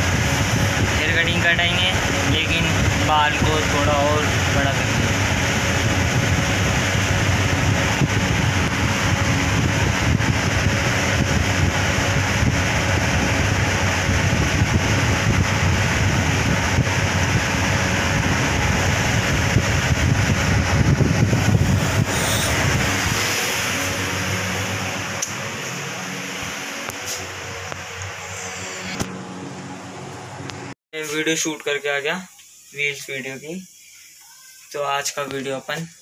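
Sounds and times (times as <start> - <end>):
air cooler fan blowing: 0.0 - 34.1.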